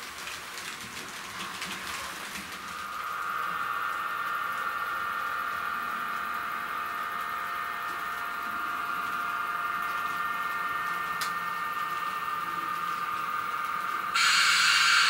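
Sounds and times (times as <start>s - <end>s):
wheels humming on track: 0.0s - 15.0s
model train motor whine: 2.7s - 15.0s.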